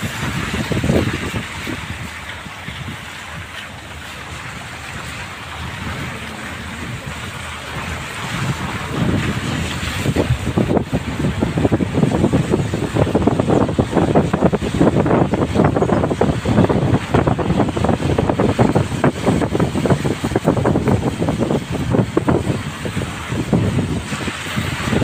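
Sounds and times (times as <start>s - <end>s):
steady rushing noise: 0.0s - 25.0s
wind buffeting microphone: 0.0s - 25.0s.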